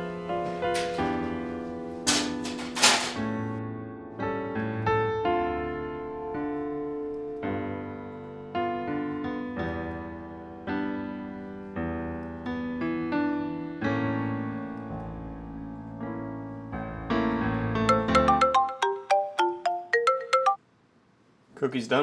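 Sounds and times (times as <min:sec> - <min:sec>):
slow piano music: 0:00.0 - 0:20.6.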